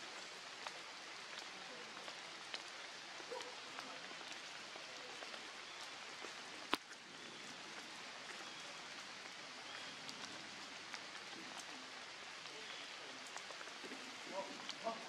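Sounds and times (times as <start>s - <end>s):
light rain on leaves: 0.0s - 15.0s.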